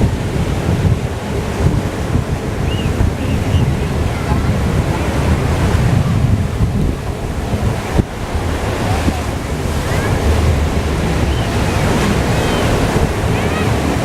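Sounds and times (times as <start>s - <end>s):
waves washing: 0.0s - 14.0s
wind rumbling on microphone: 0.0s - 14.0s.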